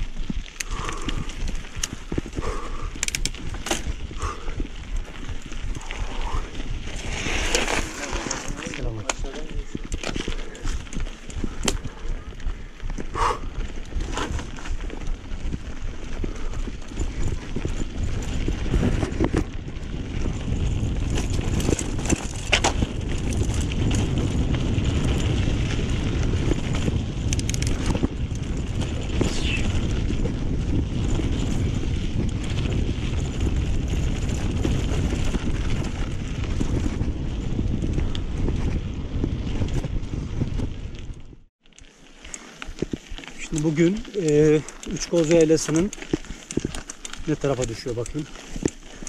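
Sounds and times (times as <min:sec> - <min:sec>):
bike clicks and knocks: 0:00.0 - 0:05.9, 0:06.9 - 0:49.0
wind buffeting microphone: 0:00.0 - 0:41.5.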